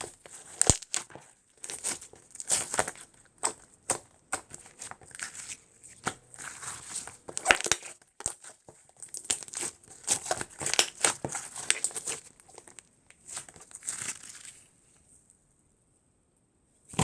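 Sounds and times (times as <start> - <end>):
slime squished by hand: 0.0 - 14.6.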